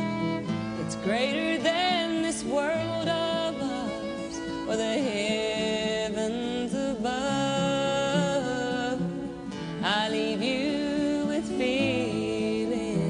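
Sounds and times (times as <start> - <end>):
soft instrumental backing: 0.0 - 13.0
woman singing a country ballad: 0.0 - 13.0.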